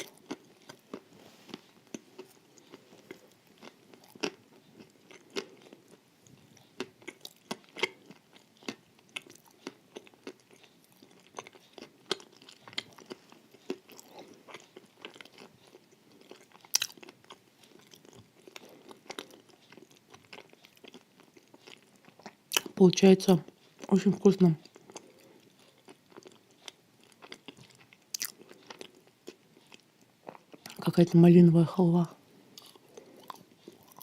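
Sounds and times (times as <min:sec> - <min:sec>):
person chewing crunchy wafer: 0:00.0 - 0:30.9, 0:32.5 - 0:34.0.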